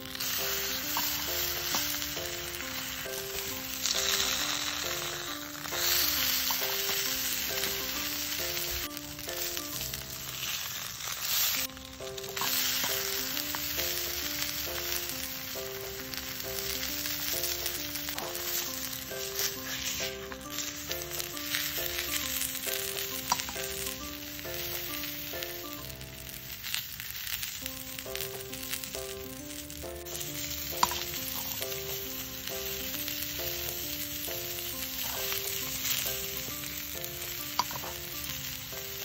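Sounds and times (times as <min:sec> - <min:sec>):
light background music: 0:00.0 - 0:39.0
tofu sizzling in oil: 0:00.0 - 0:39.0.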